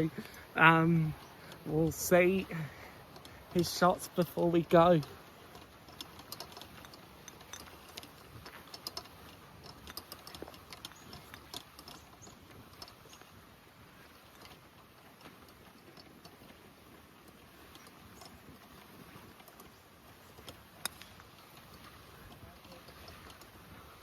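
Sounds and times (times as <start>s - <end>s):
light rain pattering: 0.0s - 24.0s.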